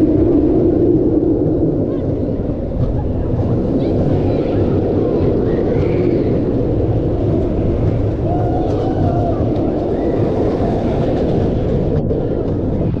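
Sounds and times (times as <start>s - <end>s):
roller coaster wheels rumbling: 0.0s - 13.0s
wind rushing over camera: 0.0s - 13.0s.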